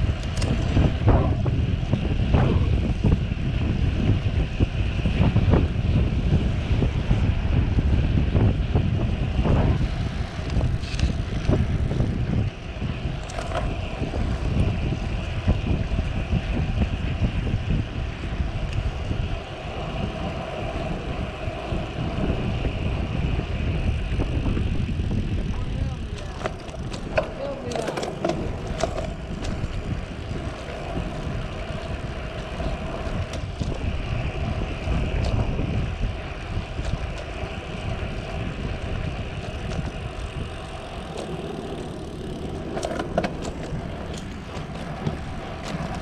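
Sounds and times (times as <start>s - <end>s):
tyre and road noise: 0.0s - 46.0s
wind buffeting microphone: 0.0s - 46.0s.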